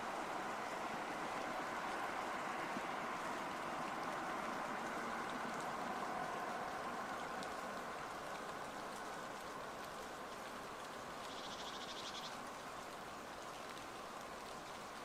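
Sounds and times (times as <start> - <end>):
light rain hiss: 0.0 - 15.0.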